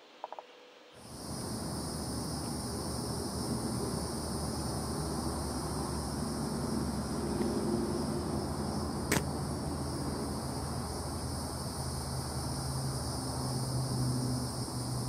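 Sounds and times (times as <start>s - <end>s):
high hiss: 0.8s - 15.0s.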